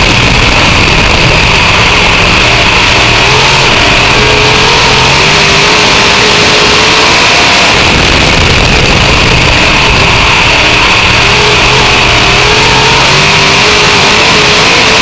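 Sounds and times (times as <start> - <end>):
race car engine running: 0.0 - 15.0.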